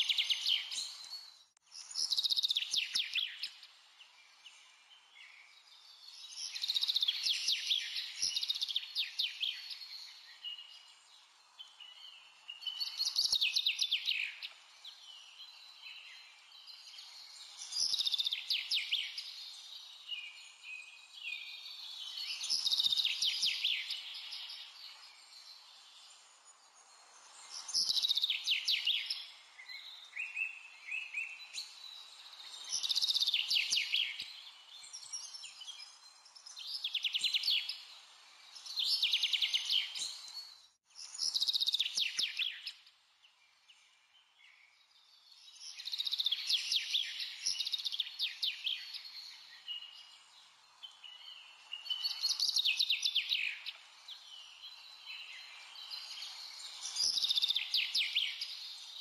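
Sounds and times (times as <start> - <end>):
songbird singing trilled notes: 0.0 - 42.8, 44.4 - 59.0
faint bird chirps: 0.0 - 59.0.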